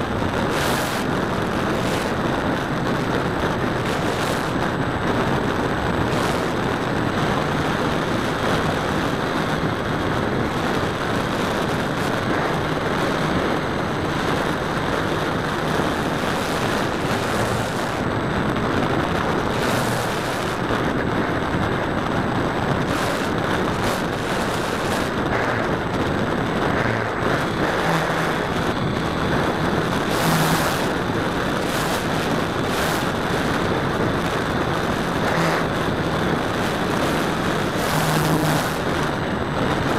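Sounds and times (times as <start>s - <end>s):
motor and propeller hum: 0.0s - 39.9s
wind rushing over microphone: 0.0s - 39.9s.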